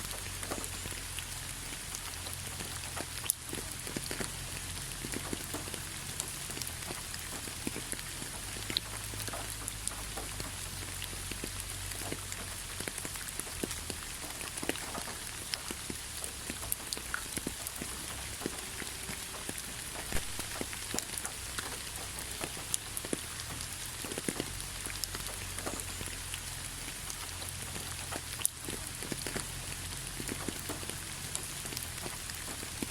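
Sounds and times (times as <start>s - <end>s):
rain pattering: 0.0s - 32.9s.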